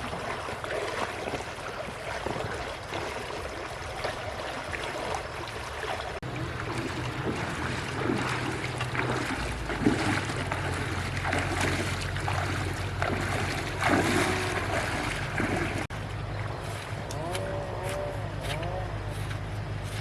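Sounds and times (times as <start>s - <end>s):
rushing splashing water: 0.0s - 20.0s
water pump engine humming: 0.0s - 20.0s.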